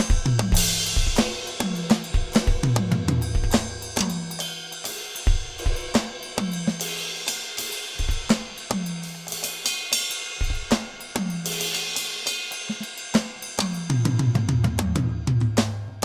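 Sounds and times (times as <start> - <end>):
cymbal crash: 0.0 - 14.1
electronic drum groove: 0.0 - 16.0.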